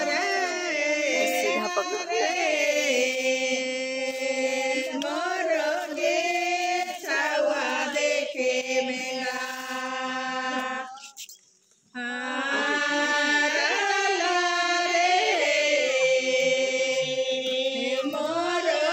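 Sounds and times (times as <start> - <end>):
voices singing a chant: 0.0 - 18.9.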